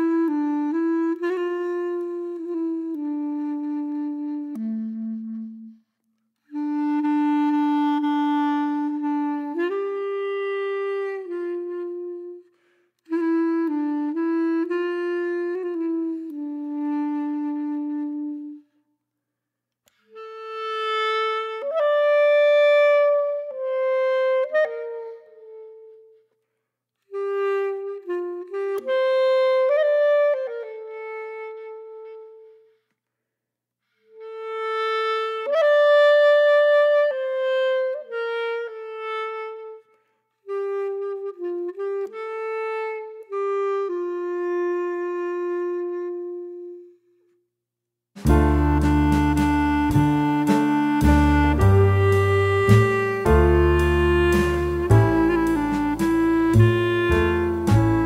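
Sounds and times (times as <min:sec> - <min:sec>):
slow wind instrument melody: 0:00.0 - 0:18.8, 0:19.9 - 0:26.4, 0:27.0 - 0:32.8, 0:33.9 - 0:47.3, 0:48.2 - 0:58.0.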